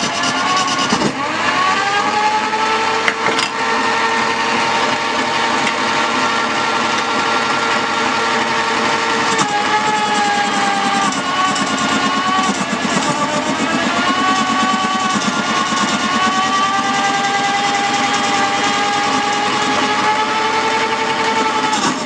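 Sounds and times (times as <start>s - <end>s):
lathe motor hum: 0.0s - 22.0s.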